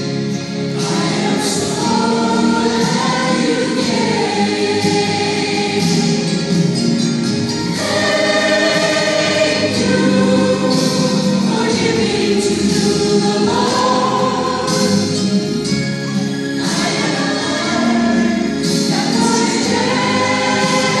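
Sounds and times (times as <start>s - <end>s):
choir singing long held notes: 0.8s - 6.6s, 7.5s - 15.3s, 16.4s - 21.0s.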